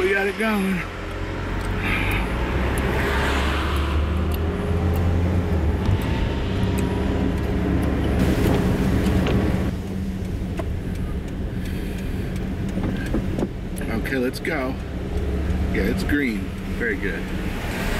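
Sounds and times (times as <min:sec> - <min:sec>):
car engine hum: 0:00.0 - 0:17.9
road noise: 0:00.0 - 0:17.9.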